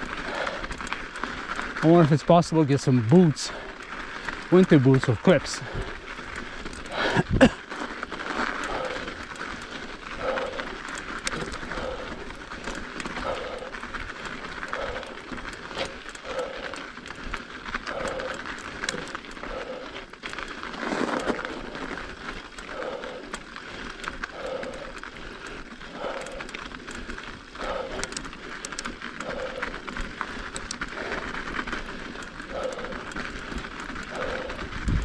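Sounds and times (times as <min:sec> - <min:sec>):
bike clicks and rattles: 0:00.0 - 0:35.0
bike tyres rolling on snow: 0:00.0 - 0:35.0.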